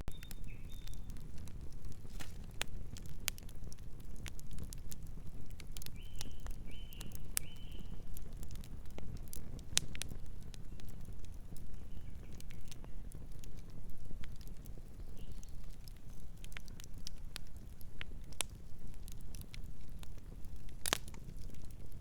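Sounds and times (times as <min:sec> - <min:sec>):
burning wood popping and snapping: 0:00.0 - 0:22.0
low steady fire rumble: 0:00.0 - 0:22.0.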